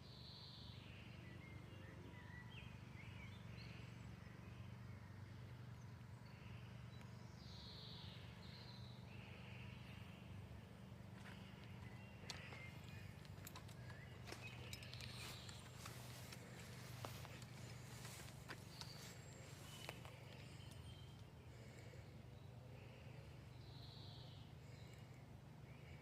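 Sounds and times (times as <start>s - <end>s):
birds chirping and warbling: 0.0s - 26.0s
low steady hum: 0.0s - 26.0s.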